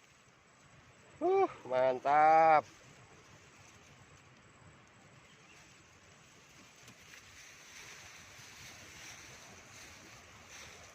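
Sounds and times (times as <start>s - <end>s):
faint outdoor hiss: 0.0s - 10.9s.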